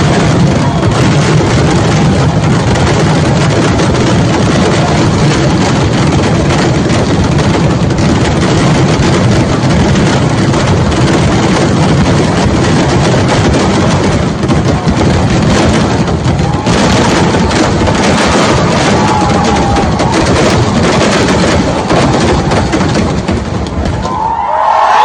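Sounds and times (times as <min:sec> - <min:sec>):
firecracker explosions: 0:00.0 - 0:25.0.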